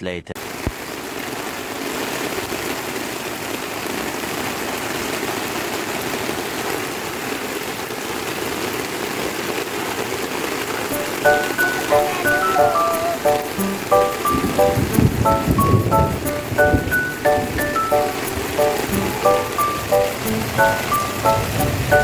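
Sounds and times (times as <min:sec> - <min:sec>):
steady rain falling: 0:00.4 - 0:22.0.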